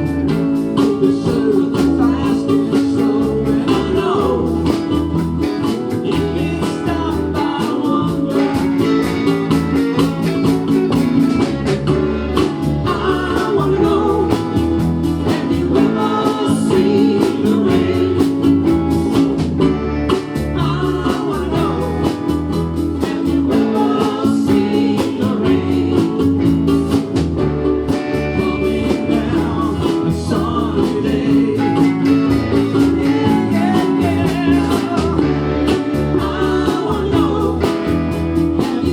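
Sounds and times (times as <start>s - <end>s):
group singing: 0.0s - 38.9s
ukuleles strummed: 0.0s - 38.9s.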